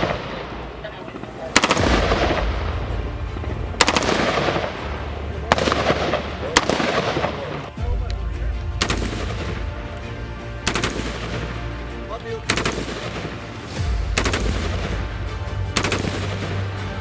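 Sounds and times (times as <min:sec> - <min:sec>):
rifle firing bursts: 0:00.0 - 0:02.6, 0:03.3 - 0:07.8, 0:08.6 - 0:17.0.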